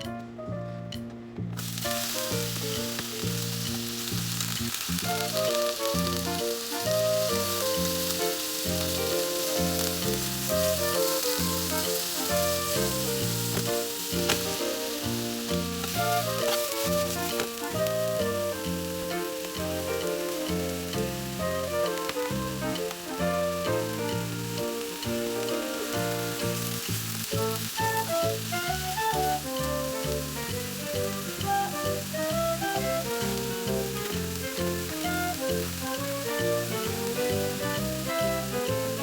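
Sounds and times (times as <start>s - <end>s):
background music with bass line: 0.0s - 39.0s
food sizzling in a pan: 1.6s - 39.0s.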